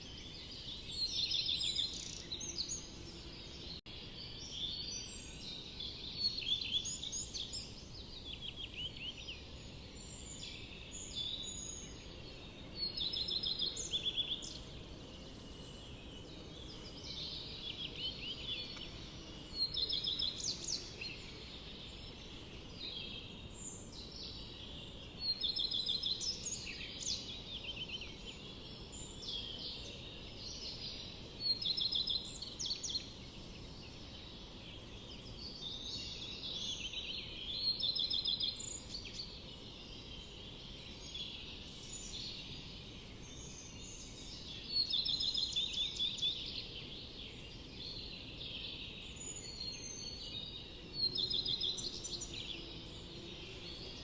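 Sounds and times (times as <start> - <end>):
birds singing: 0.0 - 54.0
low background hiss: 0.0 - 54.0.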